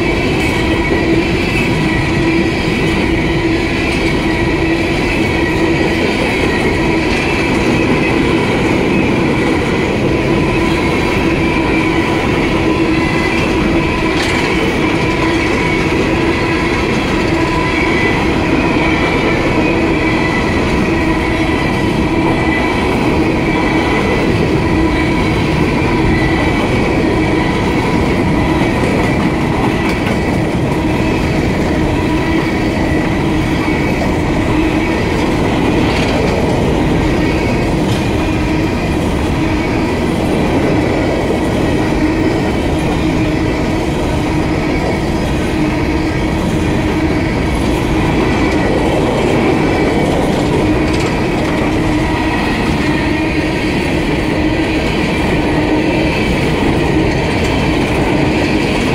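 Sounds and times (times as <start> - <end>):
train wheels clattering on rails: 0.0 - 58.9.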